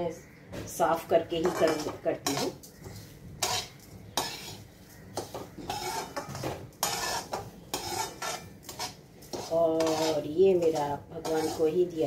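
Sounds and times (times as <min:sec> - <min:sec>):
metal spatula scraping metal pan: 0:01.0 - 0:12.0.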